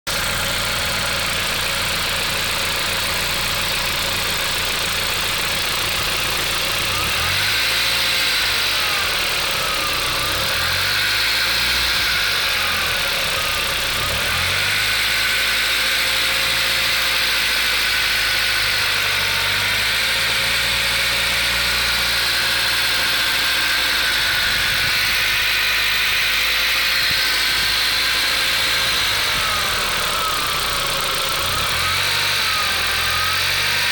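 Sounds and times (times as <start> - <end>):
car engine idling and revving: 0.0 - 33.9
engine clatter: 0.0 - 33.9.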